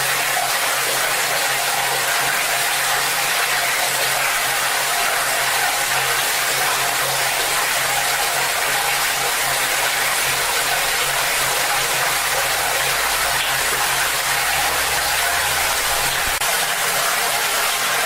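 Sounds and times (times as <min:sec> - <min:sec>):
tap water gushing into bucket: 0:00.0 - 0:18.0.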